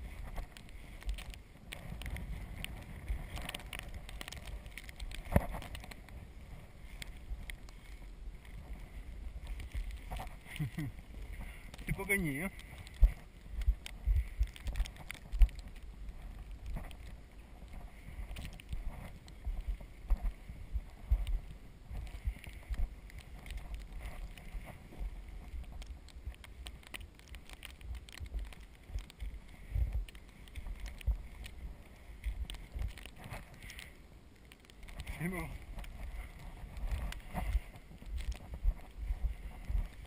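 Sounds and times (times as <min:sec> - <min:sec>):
tyres rolling through snow: 0:00.0 - 0:40.0
small clicks on microphone: 0:00.1 - 0:06.2, 0:06.8 - 0:40.0.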